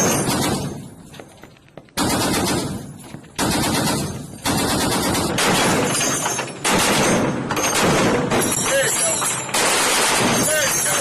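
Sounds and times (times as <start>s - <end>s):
machine gun automatic fire: 0.0s - 0.8s, 2.0s - 8.6s, 9.5s - 11.0s.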